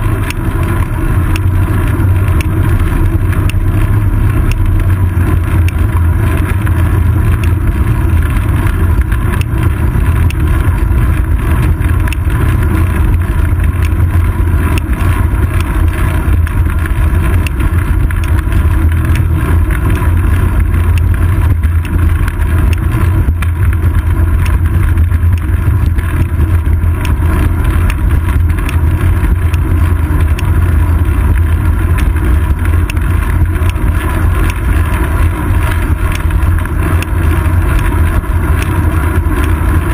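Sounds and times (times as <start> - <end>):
bicycle road noise: 0.0 - 39.9
wind rumble: 0.0 - 39.9.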